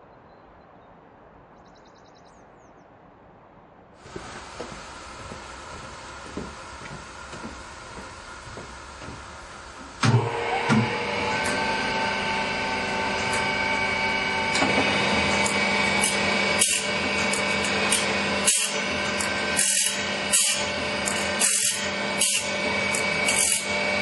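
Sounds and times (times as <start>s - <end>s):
grinder motor hum: 4.0s - 24.0s
grinding wheel hissing strokes: 4.0s - 24.0s.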